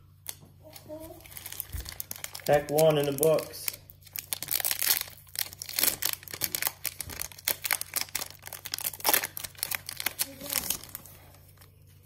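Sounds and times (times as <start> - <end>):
foil wrapper tearing and crinkling: 1.2 - 11.7.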